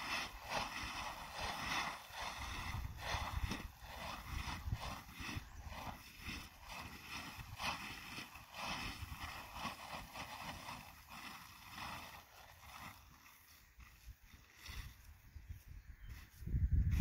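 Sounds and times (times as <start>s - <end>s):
plastic tarp rustling: 0.0s - 17.0s.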